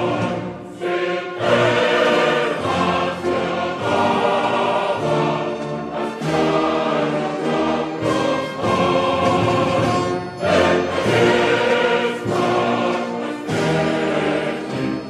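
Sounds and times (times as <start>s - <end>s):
choir singing: 0.0s - 15.0s
orchestral accompaniment: 0.0s - 15.0s.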